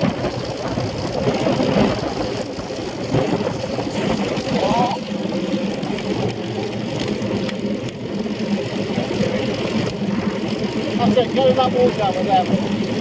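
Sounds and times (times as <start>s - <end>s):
bicycle tyres rolling: 0.0s - 13.0s
wind buffeting camera: 0.0s - 13.0s.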